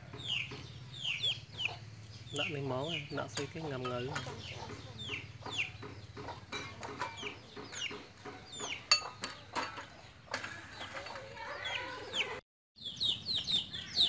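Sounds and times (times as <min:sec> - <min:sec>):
chickens clucking: 0:00.0 - 0:12.4.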